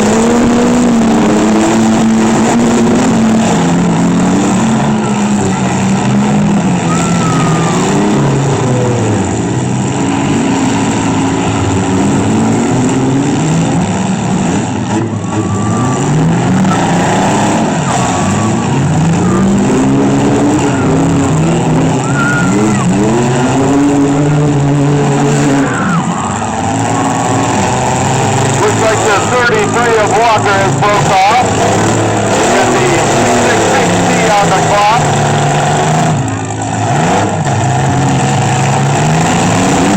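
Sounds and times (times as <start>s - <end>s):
engines revving: 0.0s - 39.9s.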